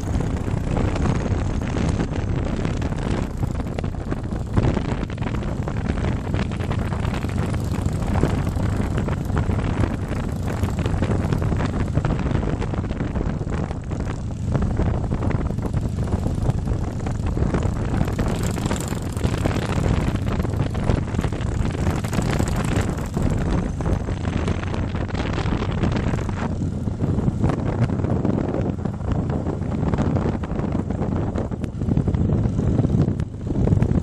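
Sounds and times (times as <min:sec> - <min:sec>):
motorcycle engine running: 0:00.0 - 0:34.0
wind rush on microphone: 0:00.0 - 0:34.0.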